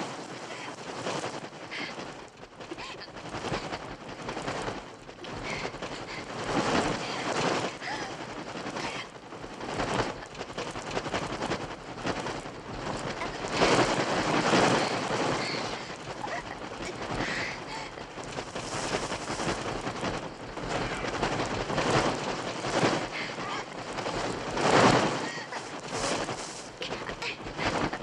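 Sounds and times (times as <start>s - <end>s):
wings flapping: 0.0s - 28.0s.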